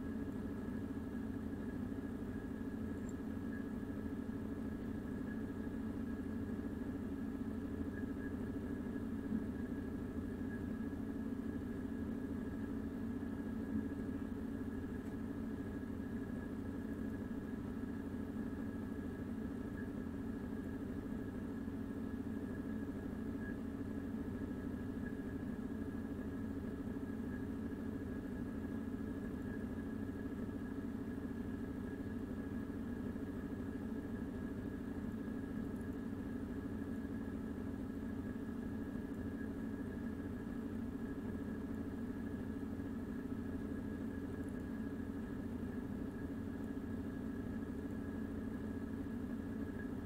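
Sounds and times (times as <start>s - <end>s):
mechanical hum with faint whine: 0.0s - 50.0s.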